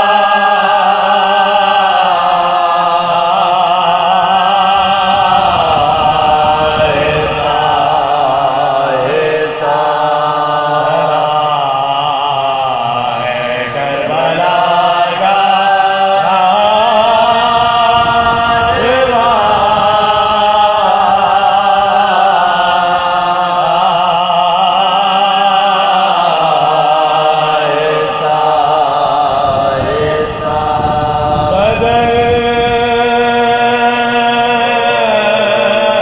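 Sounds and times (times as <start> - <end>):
men chanting a lament: 0.0 - 36.0.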